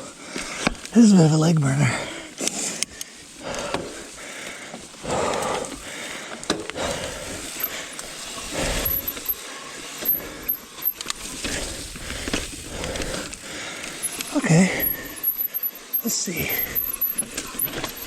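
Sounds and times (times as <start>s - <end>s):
tyre and trail noise: 0.1s - 18.0s
bike drivetrain clicking and rattling: 2.4s - 18.0s.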